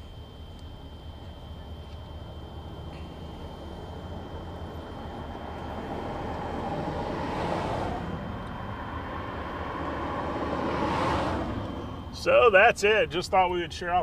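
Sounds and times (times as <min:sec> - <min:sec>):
vehicles passing by: 0:00.0 - 0:14.0.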